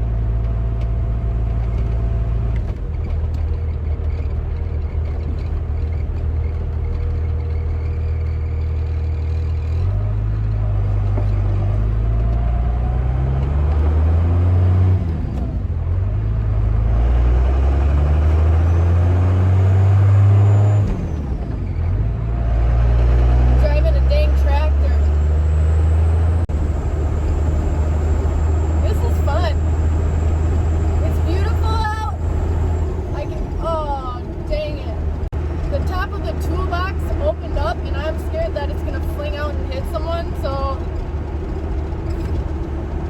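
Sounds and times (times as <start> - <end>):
road noise inside a cab: 0.0 - 43.0
vehicle engine accelerating: 0.0 - 43.0.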